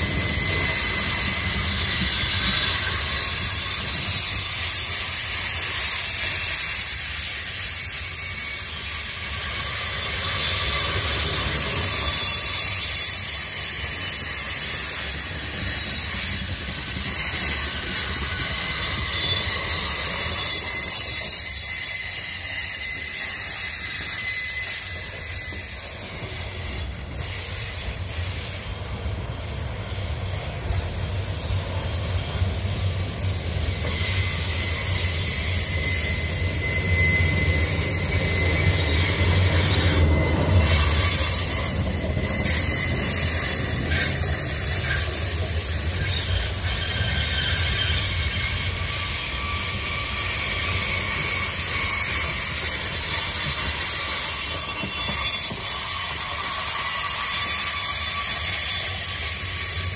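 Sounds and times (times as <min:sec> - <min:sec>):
freight wagons rumbling on rails: 0:00.0 - 0:59.9
high-pitched wheel squeal: 0:00.0 - 0:59.9.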